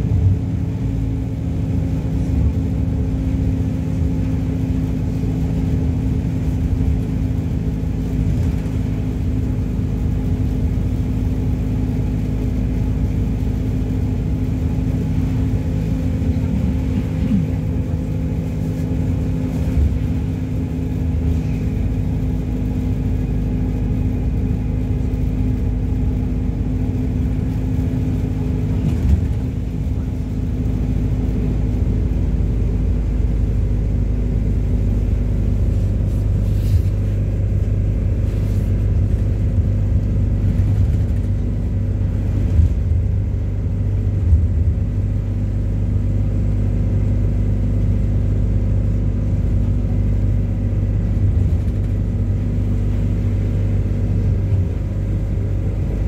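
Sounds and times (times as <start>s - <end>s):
bus engine running: 0.0s - 56.0s
low road rumble: 0.0s - 56.0s.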